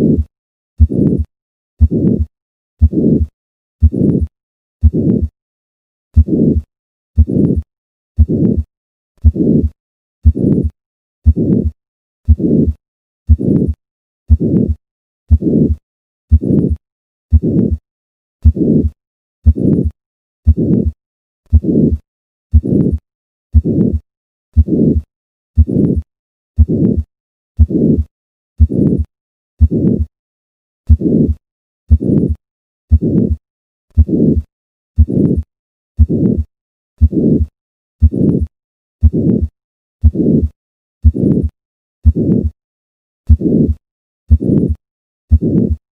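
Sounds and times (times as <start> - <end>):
heartbeat with murmur: 0.0 - 5.3, 6.2 - 7.6, 8.2 - 17.8, 18.4 - 24.0, 24.6 - 30.1, 30.9 - 42.6, 43.3 - 45.8.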